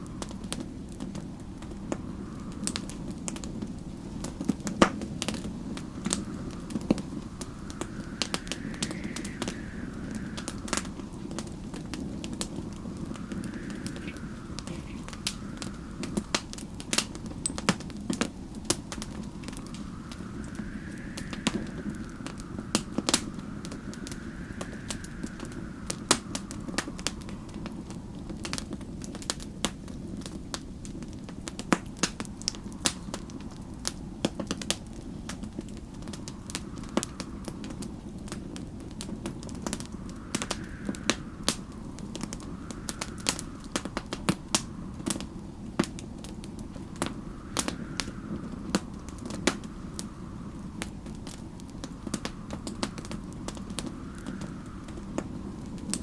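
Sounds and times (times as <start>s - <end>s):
gusting snowstorm wind: 0.0s - 56.0s
wood fire crackling and popping: 0.0s - 56.0s.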